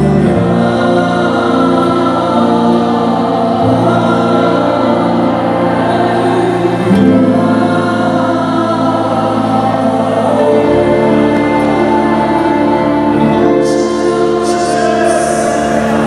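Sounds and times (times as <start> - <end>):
acoustic and electric guitar: 0.0 - 16.0
women singing gospel in harmony: 0.0 - 16.0.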